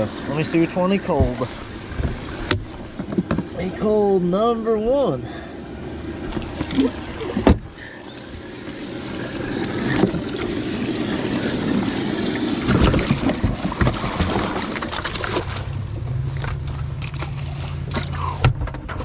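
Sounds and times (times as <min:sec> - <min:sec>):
water churning and splashing: 0:00.0 - 0:19.0.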